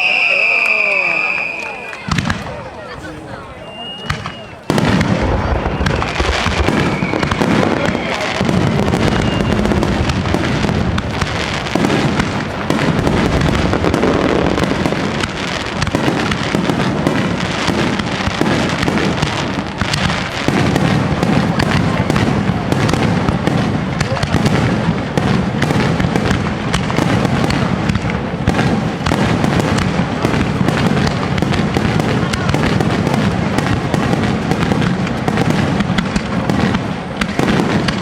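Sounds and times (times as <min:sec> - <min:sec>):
fireworks crackling and popping: 0:00.0 - 0:38.0.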